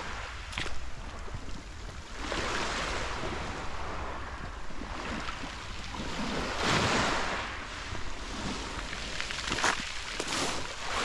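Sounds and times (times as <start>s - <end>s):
waves washing over pebbles: 0.0s - 11.0s
wind rumbling on microphone: 0.0s - 11.0s.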